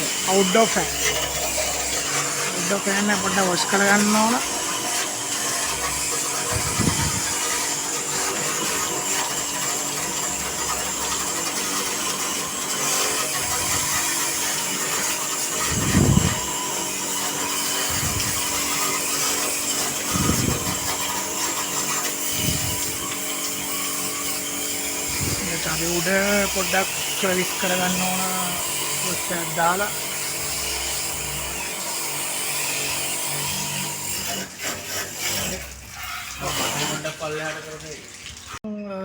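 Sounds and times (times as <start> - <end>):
water jet spraying: 0.0 - 38.6
water pump motor running: 0.0 - 38.6.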